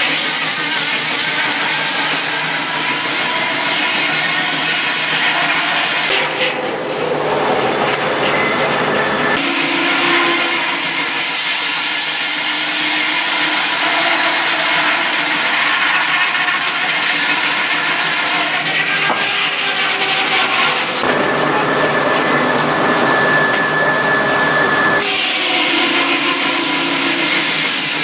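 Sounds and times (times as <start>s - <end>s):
saw cutting through log: 0.0s - 6.6s, 9.3s - 22.4s, 25.0s - 28.0s.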